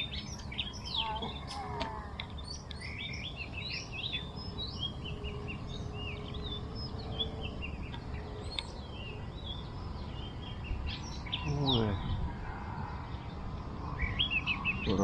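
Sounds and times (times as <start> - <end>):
birds singing whistled notes: 0.0 - 15.0
low outdoor rumble: 0.0 - 15.0.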